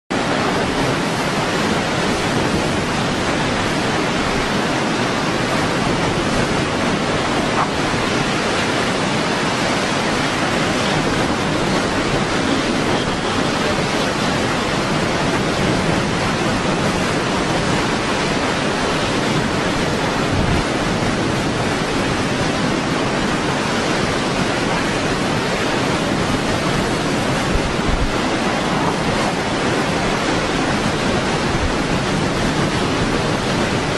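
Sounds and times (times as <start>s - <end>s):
strong wind blowing: 0.1s - 33.9s.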